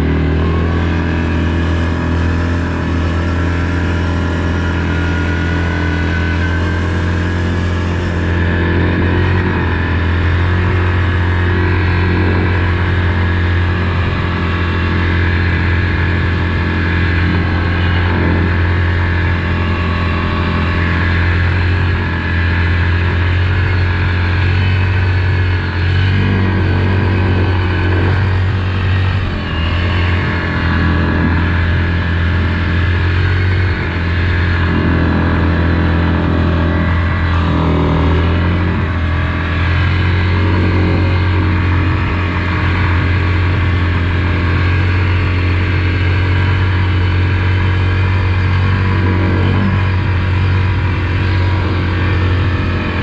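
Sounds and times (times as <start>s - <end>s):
quad bike engine: 0.0s - 53.0s.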